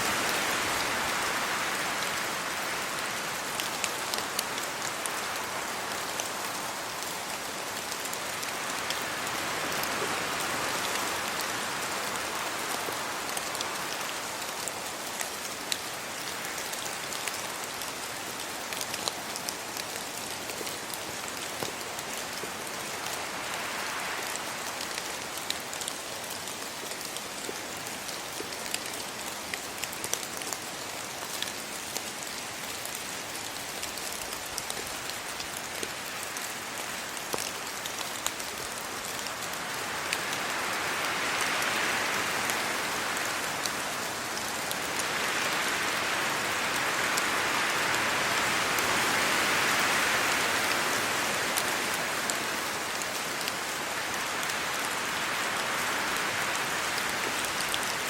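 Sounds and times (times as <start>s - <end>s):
rain falling on trees: 0.0s - 58.0s
wind gusts through leaves: 0.0s - 58.0s.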